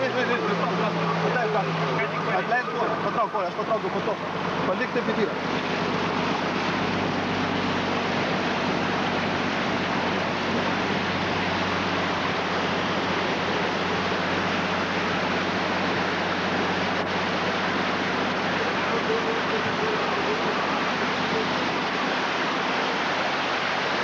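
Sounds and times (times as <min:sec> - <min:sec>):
engine low hum: 0:00.0 - 0:24.0
floodwater rushing and churning: 0:00.0 - 0:24.0.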